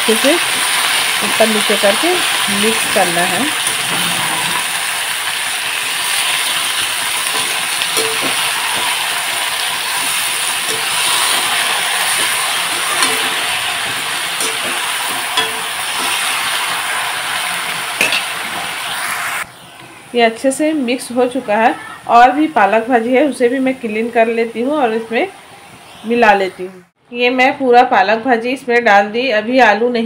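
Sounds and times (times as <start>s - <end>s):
spinach sizzling in hot oil: 0.0s - 26.6s.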